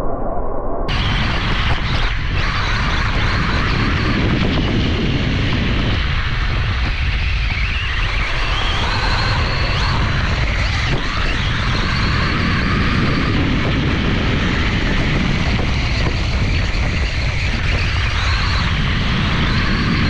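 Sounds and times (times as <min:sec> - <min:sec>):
wind buffeting microphone: 0:00.9 - 0:20.0.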